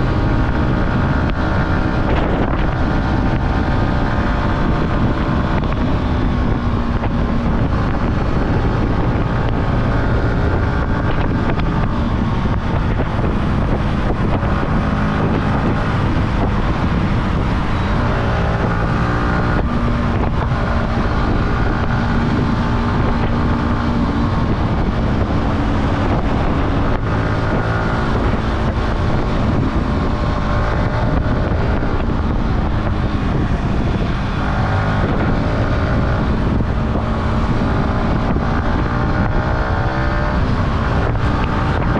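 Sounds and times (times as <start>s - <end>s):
motorcycle engine revving: 0.0s - 41.9s
wind on microphone: 0.0s - 41.9s.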